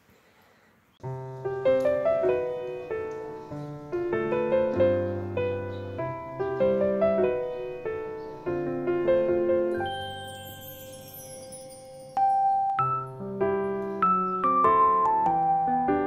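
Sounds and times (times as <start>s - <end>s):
gentle piano music: 1.0s - 16.0s.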